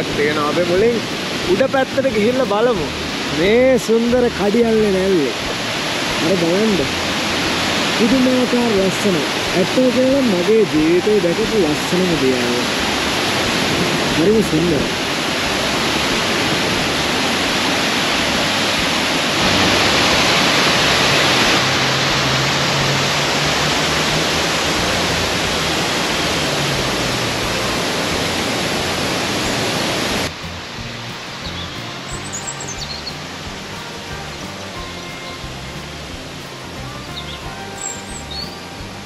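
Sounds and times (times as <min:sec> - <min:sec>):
background music: 0:00.0 - 0:39.0
waterfall rushing: 0:00.0 - 0:39.0.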